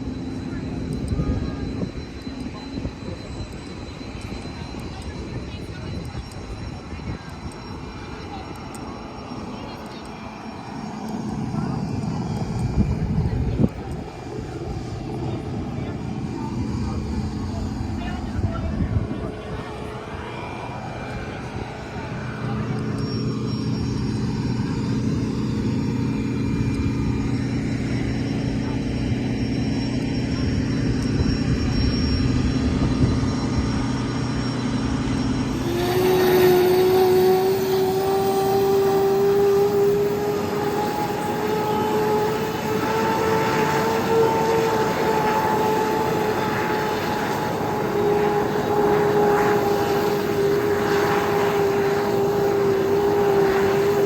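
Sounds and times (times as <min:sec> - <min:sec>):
jet engine low hum: 0:00.0 - 0:54.0
jet turbine whine: 0:00.0 - 0:54.0.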